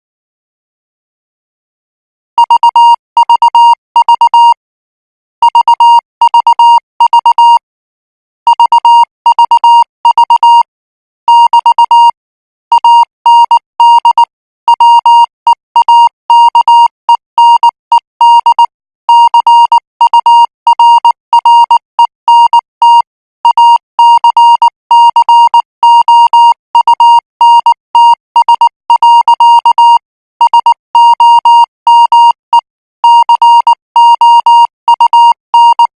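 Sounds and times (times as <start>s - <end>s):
morse code beeps: 2.4s - 4.6s, 5.5s - 7.6s, 8.5s - 10.7s, 11.3s - 35.9s.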